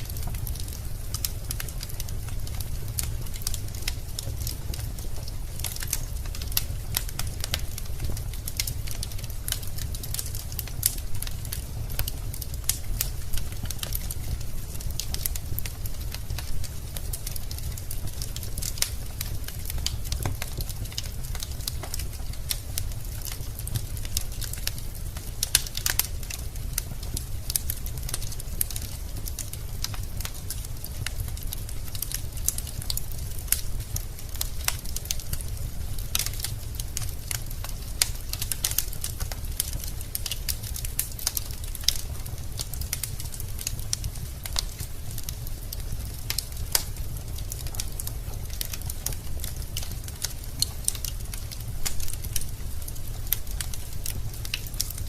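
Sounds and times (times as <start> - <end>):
logs crackling: 0.0 - 55.0
low rumble of flames: 0.0 - 55.0.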